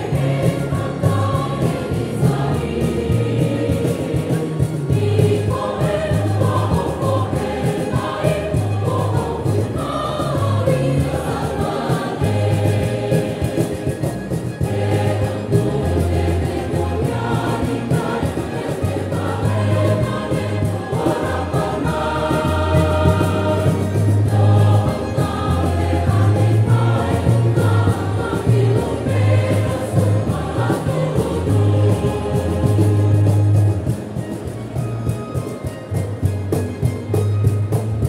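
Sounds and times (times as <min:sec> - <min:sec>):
sustained low bass notes: 0:00.0 - 0:34.1
choir singing a hymn: 0:00.0 - 0:34.4.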